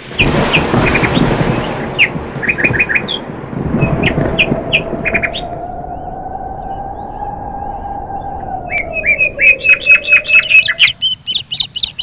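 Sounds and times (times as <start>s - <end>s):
birds chirping: 0.0s - 12.0s
rushing background noise: 0.0s - 12.0s.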